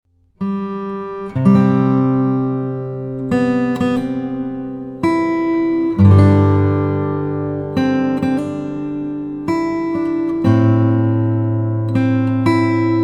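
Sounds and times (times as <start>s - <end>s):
acoustic guitar chords ringing: 0.4s - 13.0s.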